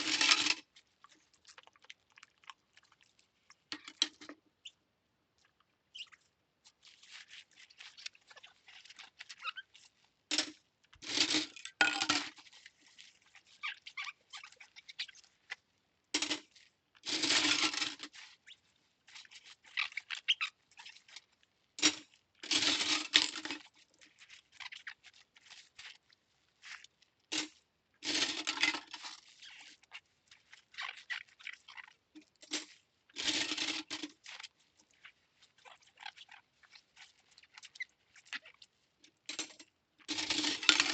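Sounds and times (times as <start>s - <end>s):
soapy scrubbing: 0.0s - 4.0s, 5.3s - 11.5s, 12.2s - 22.8s, 23.5s - 39.3s.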